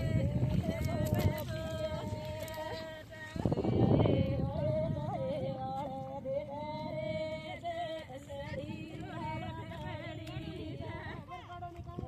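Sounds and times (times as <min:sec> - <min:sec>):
woman singing long notes: 0:00.0 - 0:12.0.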